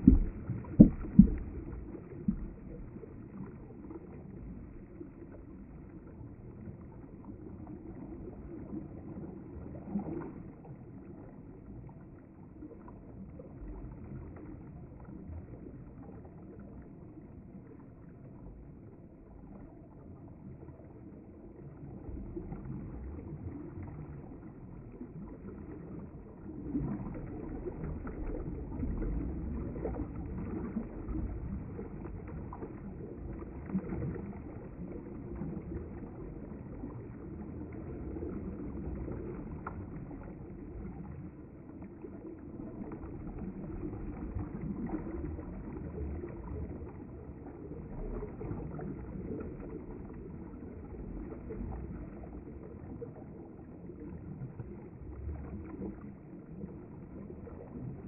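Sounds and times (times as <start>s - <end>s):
river water flowing and gurgling: 0.0s - 58.0s.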